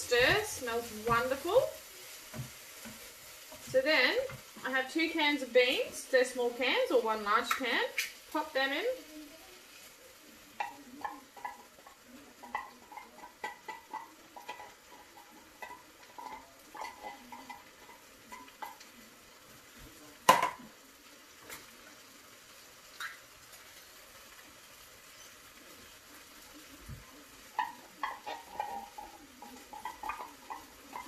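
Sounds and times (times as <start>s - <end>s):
faint pan sizzle: 0.0s - 31.0s.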